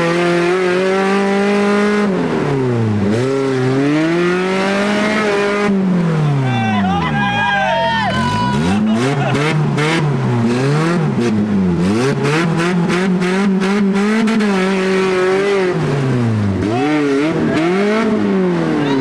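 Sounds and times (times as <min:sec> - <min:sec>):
vehicle engine revving: 0:00.0 - 0:19.0.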